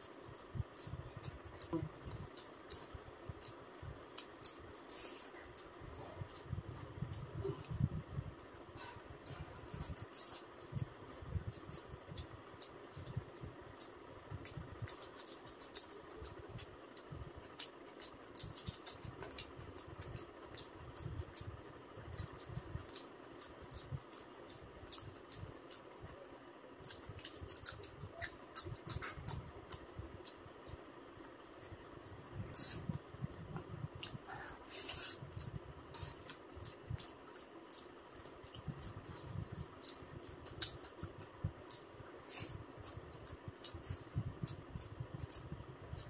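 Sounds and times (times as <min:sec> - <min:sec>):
person chewing wetly: 0:00.0 - 0:07.8, 0:09.2 - 0:26.2, 0:26.8 - 0:46.0
faint background hum: 0:00.0 - 0:46.0.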